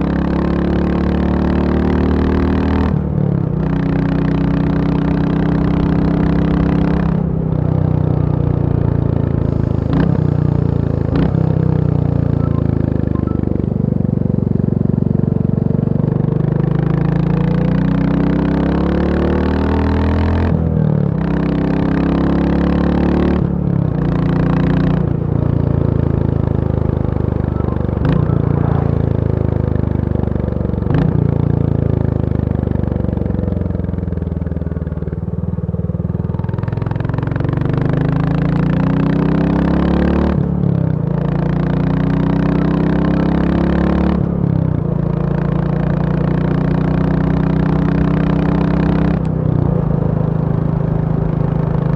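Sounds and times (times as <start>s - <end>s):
motorcycle engine running hard: 0.0s - 51.9s.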